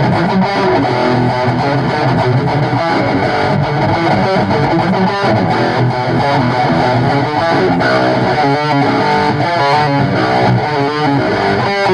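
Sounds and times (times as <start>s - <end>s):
distorted electric guitar: 0.0s - 11.9s
rock band playing: 0.0s - 11.9s.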